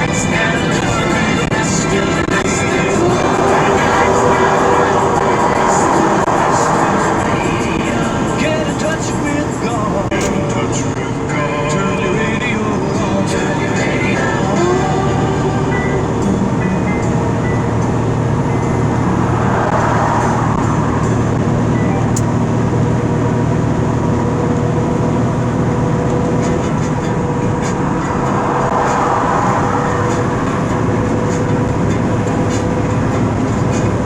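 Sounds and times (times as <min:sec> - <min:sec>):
vehicle driving at highway speed: 0:00.0 - 0:34.0.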